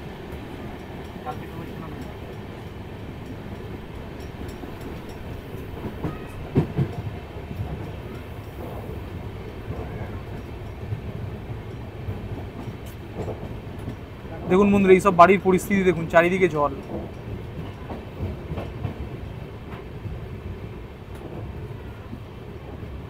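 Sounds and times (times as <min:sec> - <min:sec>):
train wheels rumbling over rails: 0:00.0 - 0:23.0.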